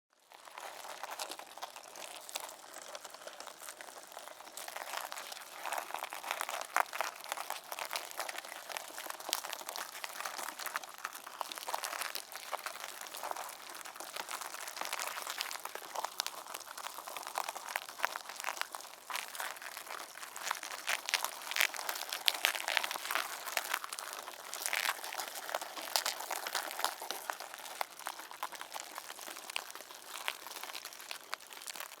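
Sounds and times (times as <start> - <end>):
mealworms crackling and rustling: 0.2 - 32.0.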